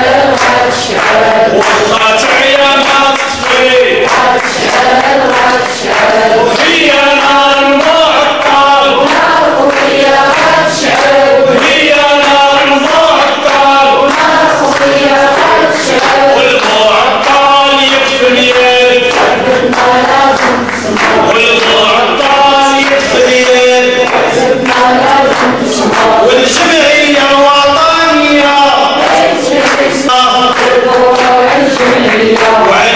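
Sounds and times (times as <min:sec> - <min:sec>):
group of voices chanting: 0:00.0 - 0:32.9.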